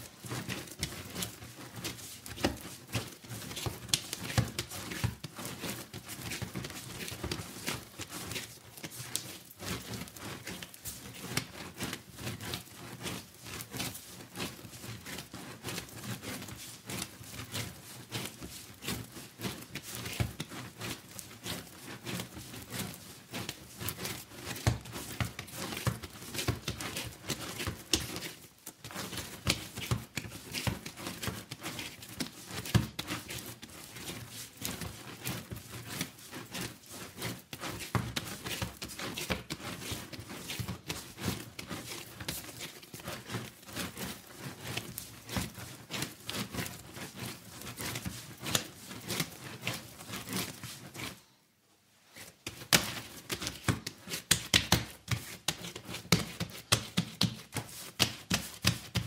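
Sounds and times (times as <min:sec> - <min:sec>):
hands kneading dough: 0:00.0 - 0:59.0.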